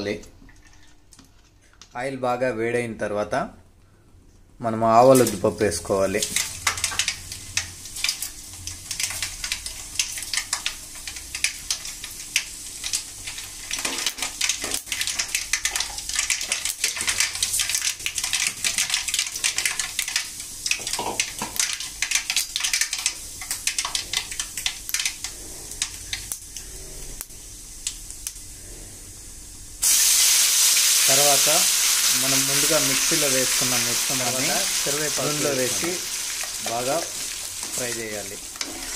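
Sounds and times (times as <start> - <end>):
seeds spluttering in hot oil: 6.2 - 28.4, 29.8 - 38.9.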